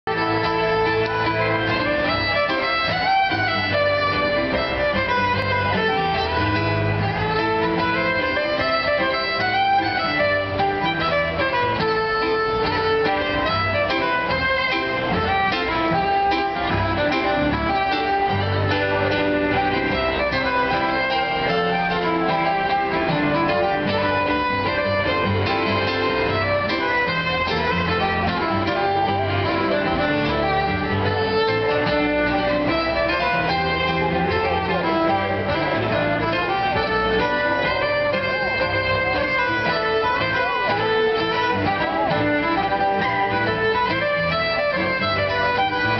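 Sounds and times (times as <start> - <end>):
fiddle playing a tune: 0.0 - 45.9
piano accompaniment: 0.0 - 45.9.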